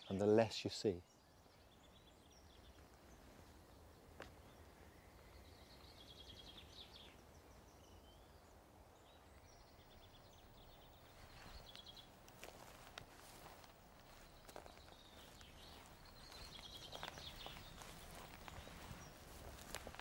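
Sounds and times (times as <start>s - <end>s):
faint songbird trill: 0.0s - 12.6s, 13.2s - 20.0s.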